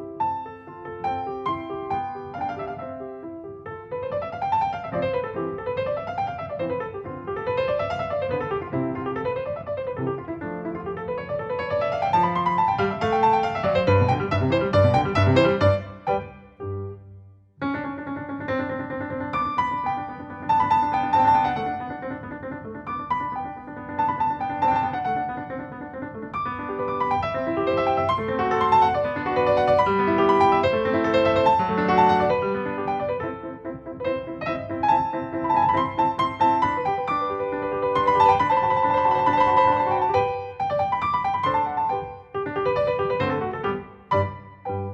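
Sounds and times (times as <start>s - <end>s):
solo piano melody: 0.0s - 44.9s.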